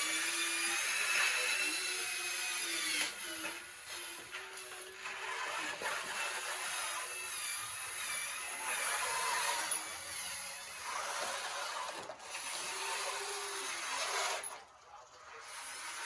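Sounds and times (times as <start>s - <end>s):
scraping and grinding: 2.5s - 16.0s.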